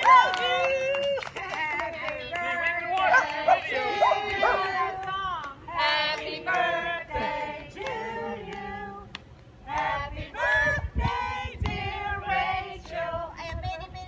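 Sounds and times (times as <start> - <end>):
women singing together: 1.3 - 13.7.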